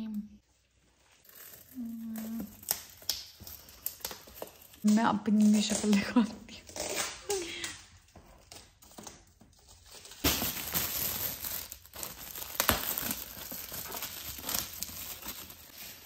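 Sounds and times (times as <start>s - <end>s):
wrapping paper tearing and crumpling: 0.6s - 7.6s, 8.4s - 16.0s.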